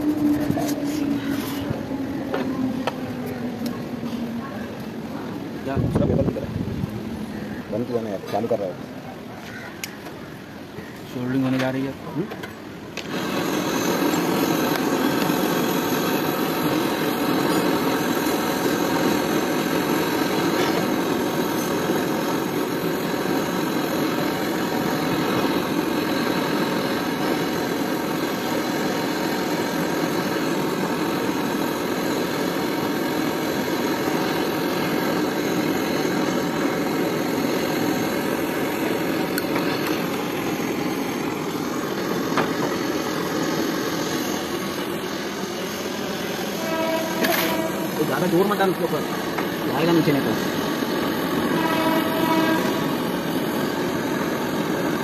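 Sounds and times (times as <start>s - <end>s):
gas torch roaring: 0.0s - 55.0s.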